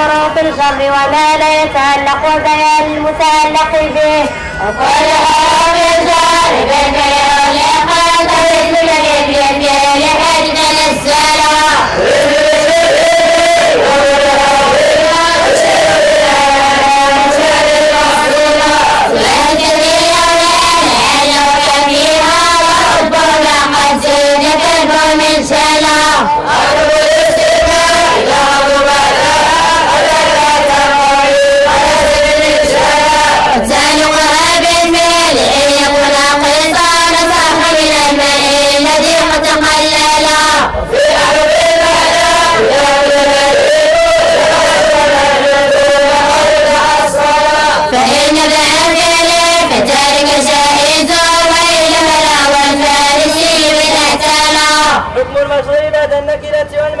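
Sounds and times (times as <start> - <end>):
group chanting in unison: 0.0 - 55.2.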